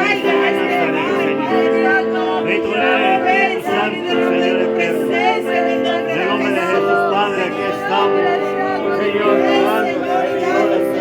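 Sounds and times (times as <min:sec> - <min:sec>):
held keyboard chords: 0:00.0 - 0:11.0
voices singing: 0:00.0 - 0:11.0.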